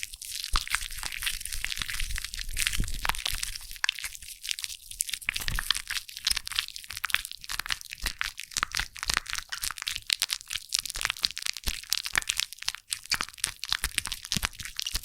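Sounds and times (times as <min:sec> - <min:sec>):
foam bubbles crackling: 0:00.0 - 0:15.0.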